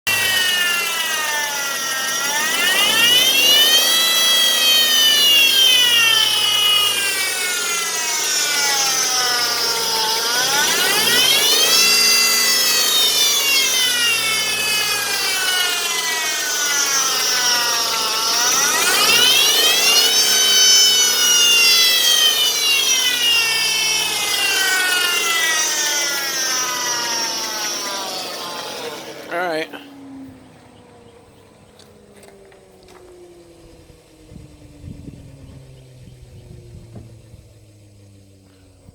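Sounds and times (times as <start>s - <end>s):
engine whine rising and falling: 0.0s - 38.9s.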